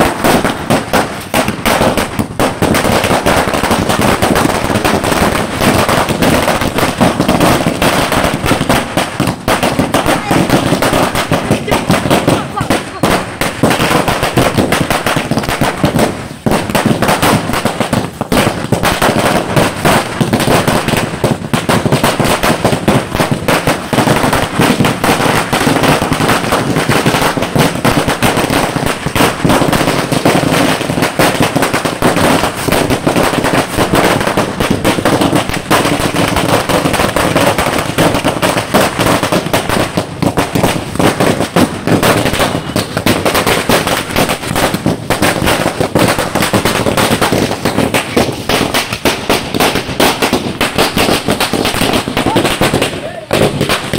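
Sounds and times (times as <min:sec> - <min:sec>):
firecrackers crackling: 0:00.0 - 0:53.9.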